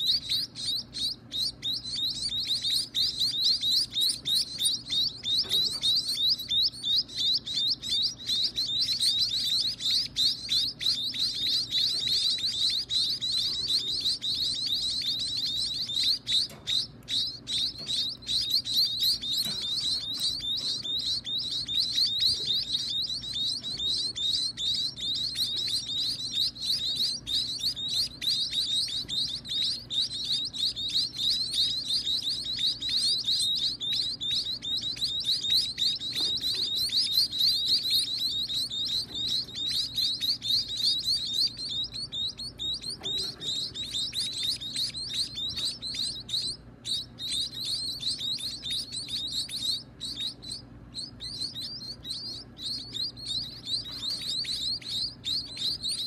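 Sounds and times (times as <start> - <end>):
nestlings cheeping: 0.0 - 56.0.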